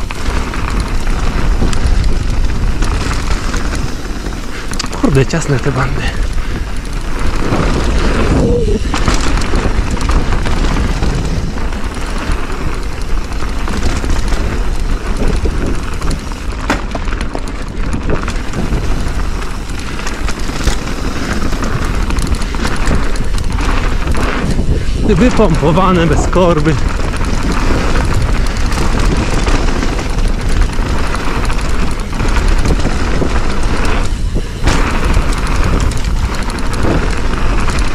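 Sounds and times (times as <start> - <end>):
bike knocks and rattles: 0.0 - 5.0, 5.6 - 37.9
bike tyre noise on dirt: 0.0 - 37.9
wind rumble on microphone: 0.0 - 37.9.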